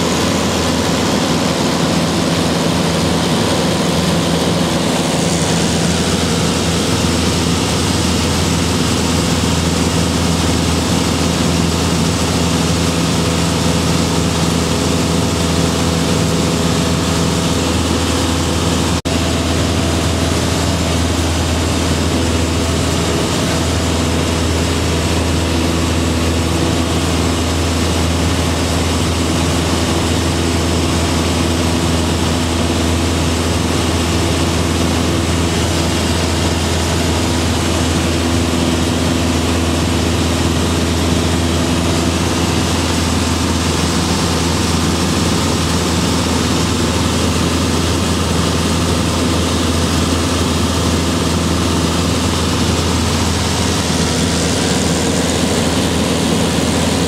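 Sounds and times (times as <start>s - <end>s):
propeller aircraft engine drone: 0.0s - 57.0s.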